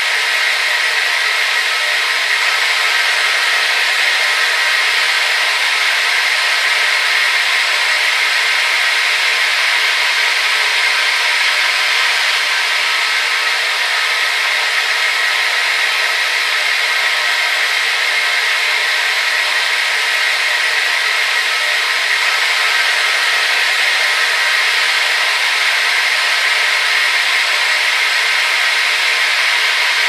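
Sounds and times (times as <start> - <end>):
hair dryer running: 0.0 - 30.0.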